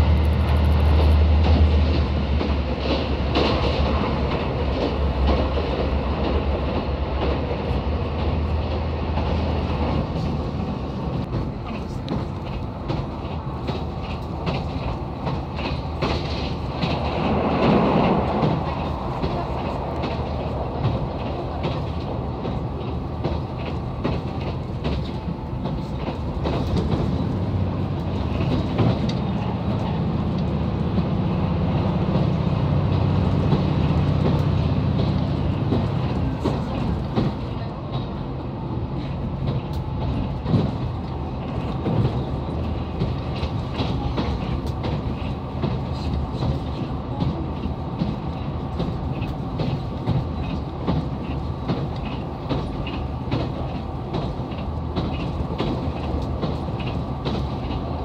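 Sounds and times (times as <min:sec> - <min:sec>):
wheels clacking over rail joints: 0:00.0 - 0:58.0.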